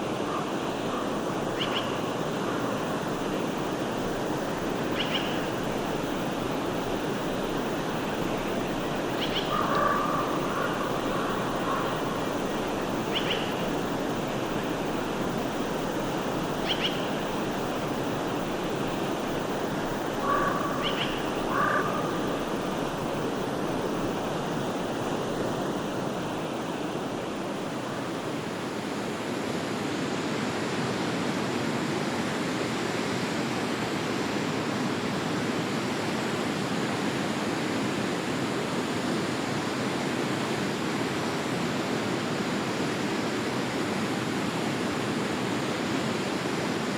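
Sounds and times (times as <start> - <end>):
stream water flowing: 0.0 - 46.9.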